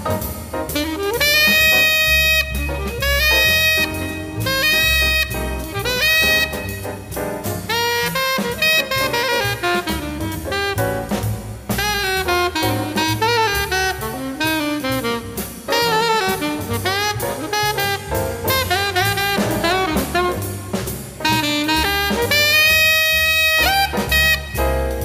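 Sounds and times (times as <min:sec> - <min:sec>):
alto saxophone playing jazz: 0:00.0 - 0:25.0
bass: 0:00.0 - 0:25.0
drums: 0:00.0 - 0:25.0.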